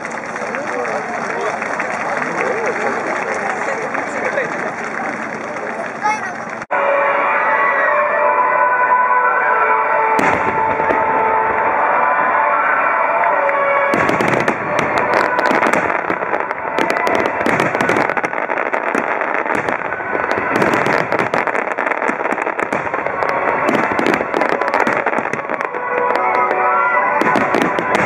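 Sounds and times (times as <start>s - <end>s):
fireworks bursting: 0.0s - 6.7s, 10.0s - 28.0s.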